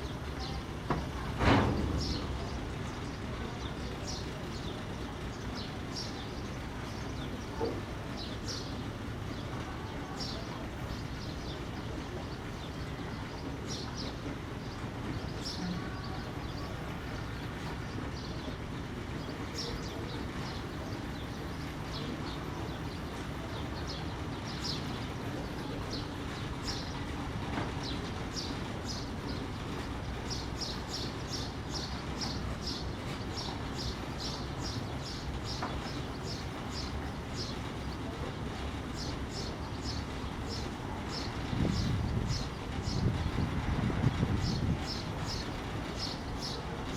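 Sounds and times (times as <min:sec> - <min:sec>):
ferry engine rumbling: 0:00.0 - 0:46.9
small birds chirping: 0:00.0 - 0:46.9.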